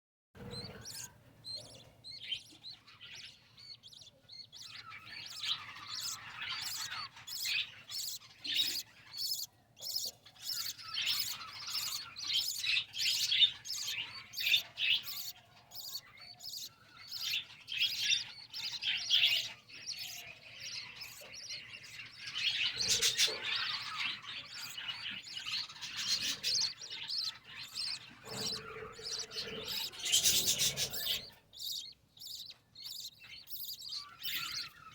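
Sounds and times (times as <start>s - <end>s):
cage birds chirping and chattering: 0.4s - 34.9s.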